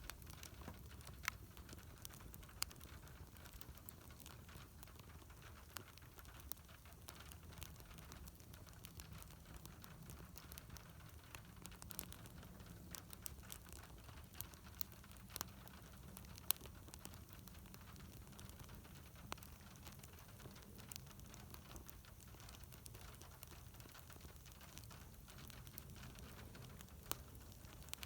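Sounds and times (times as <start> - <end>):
faint low rumble: 0.0 - 28.0
wood fire crackling: 0.0 - 28.0.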